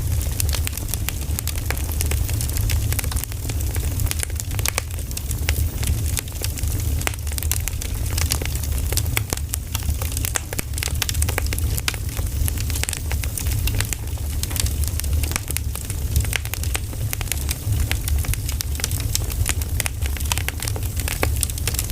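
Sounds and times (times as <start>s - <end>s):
fire low rumble: 0.0s - 21.9s
firewood crackling and popping: 0.0s - 21.9s.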